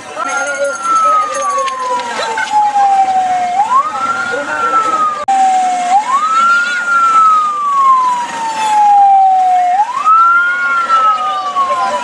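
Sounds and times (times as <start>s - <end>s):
police siren wailing: 0.2s - 12.0s.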